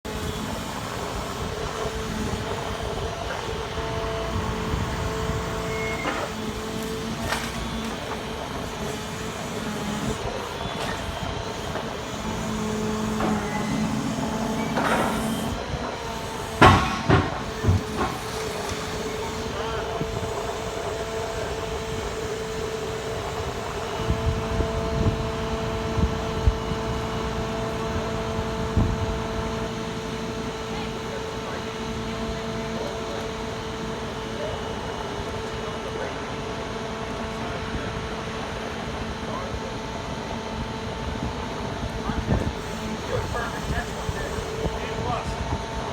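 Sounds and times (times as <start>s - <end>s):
truck engine and hydraulic noise: 0.0s - 45.9s
held hydraulic whine: 0.1s - 45.9s.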